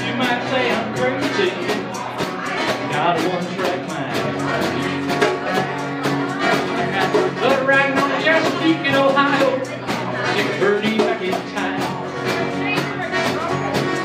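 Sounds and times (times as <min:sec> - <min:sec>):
man singing: 0:00.0 - 0:05.8, 0:06.5 - 0:12.1
acoustic guitar: 0:00.0 - 0:14.0
djembe drum beat: 0:00.1 - 0:14.0.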